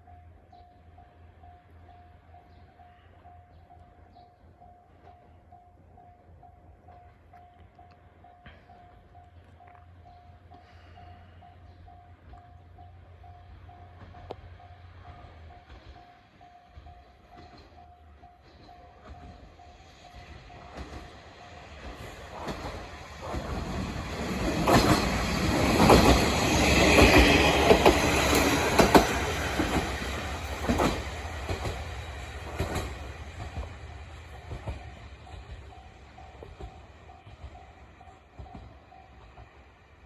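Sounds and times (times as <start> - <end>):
level-crossing warning bell: 0.0 - 39.6
diesel railcar passing: 0.0 - 40.0.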